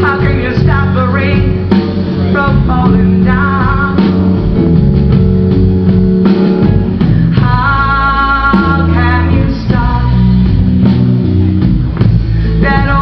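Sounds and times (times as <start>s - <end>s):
rhythm and blues band playing: 0.0s - 13.0s.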